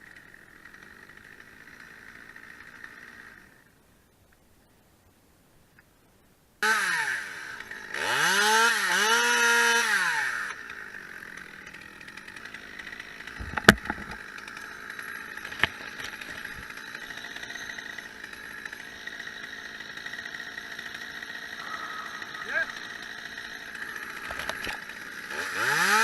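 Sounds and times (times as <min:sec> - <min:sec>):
chainsaw revving: 0:00.0 - 0:03.7, 0:06.6 - 0:26.0.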